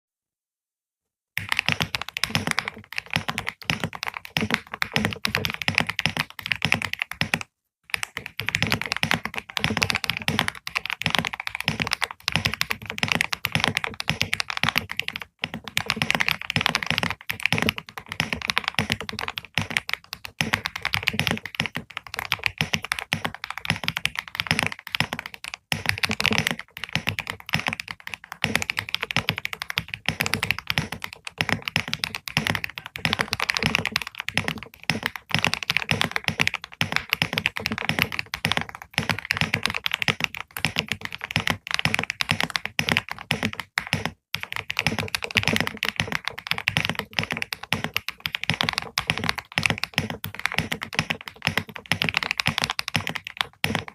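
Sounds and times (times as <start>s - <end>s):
fast typing on keyboard: 1.4s - 53.9s.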